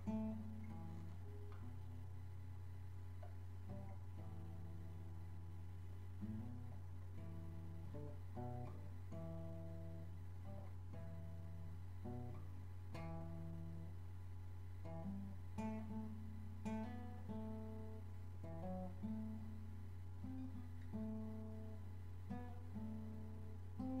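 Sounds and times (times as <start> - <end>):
acoustic guitar playing: 0.0 - 14.1, 14.7 - 24.0.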